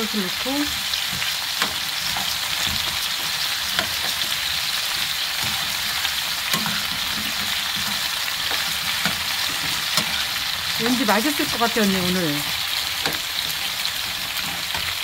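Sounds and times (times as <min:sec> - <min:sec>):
food sizzling in a pan: 0:00.0 - 0:15.0
metal spoon tapping and scraping pan: 0:00.7 - 0:11.8, 0:12.4 - 0:15.0.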